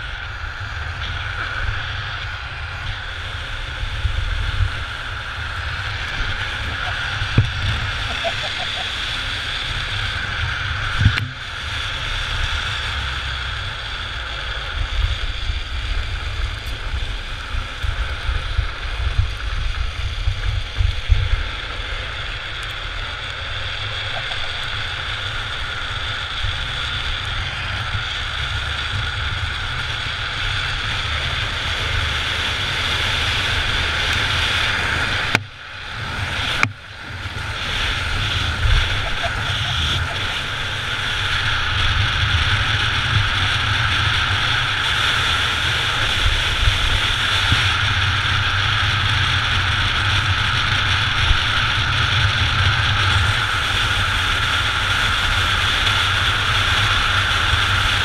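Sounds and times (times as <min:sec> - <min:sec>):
wheels rolling on asphalt: 0:00.0 - 0:58.0
wind buffeting microphone: 0:00.0 - 0:58.0.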